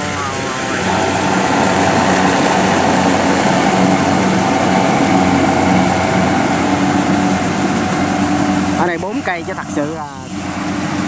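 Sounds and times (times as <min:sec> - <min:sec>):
combine harvester engine humming: 0:00.0 - 0:11.0.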